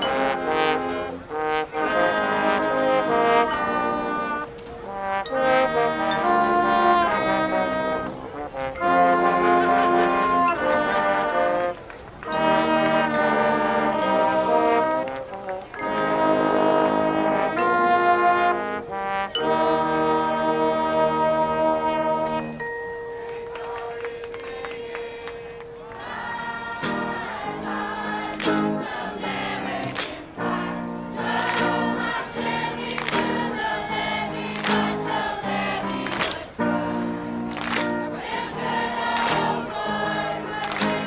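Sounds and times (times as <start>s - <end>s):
brass band chords: 0.0s - 41.0s.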